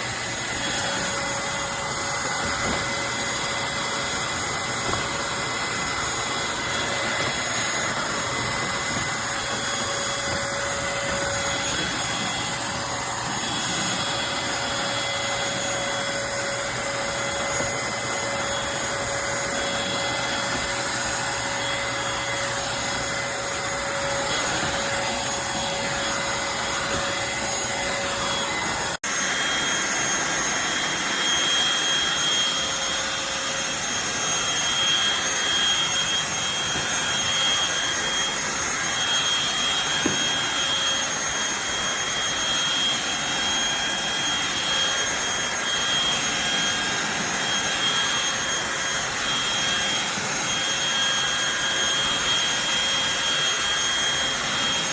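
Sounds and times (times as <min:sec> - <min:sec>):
vacuum motor whining: 0:00.0 - 0:54.9.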